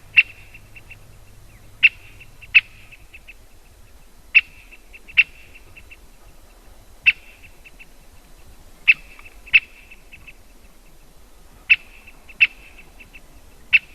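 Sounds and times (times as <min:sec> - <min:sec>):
woodpecker sharp kik calls: 0:00.0 - 0:13.9.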